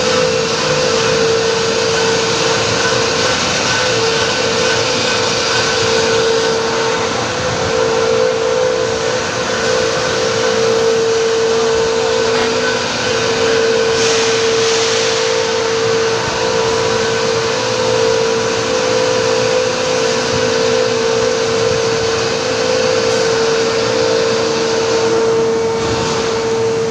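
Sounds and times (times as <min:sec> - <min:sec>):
industrial machinery rushing air: 0:00.0 - 0:26.9
steady machine hum: 0:00.0 - 0:26.9.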